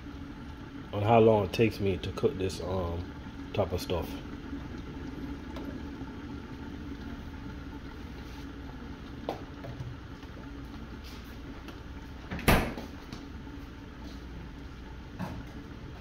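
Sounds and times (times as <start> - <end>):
pot simmering: 0.0 - 16.0
steady low hum: 0.0 - 16.0.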